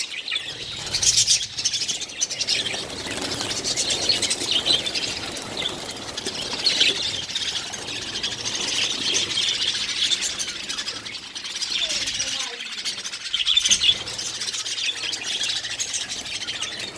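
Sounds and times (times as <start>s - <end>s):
budgerigars chattering: 0.0s - 16.9s.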